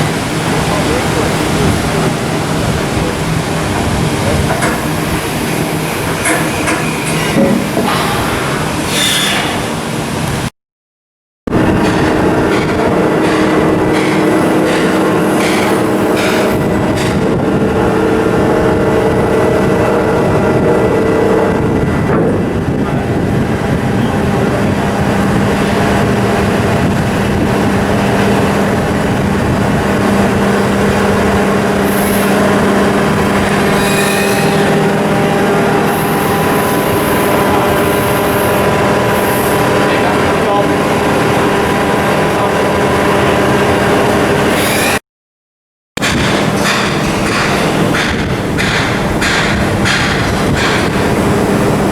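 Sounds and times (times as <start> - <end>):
ship diesel engine rumbling: 0.0 - 10.5, 11.5 - 45.0, 46.1 - 51.9.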